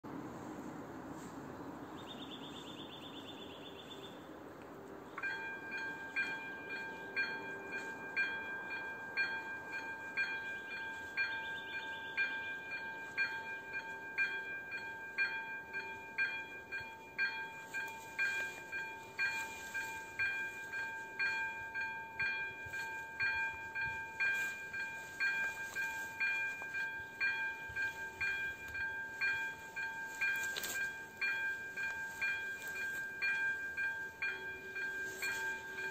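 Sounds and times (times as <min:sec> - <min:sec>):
level crossing warning bell: 0:05.0 - 0:35.9.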